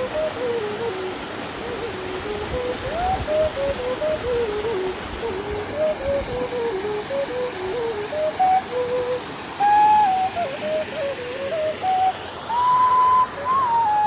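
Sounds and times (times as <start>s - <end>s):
flute-like melody: 0.0s - 14.0s
waterfall rushing: 0.0s - 14.0s.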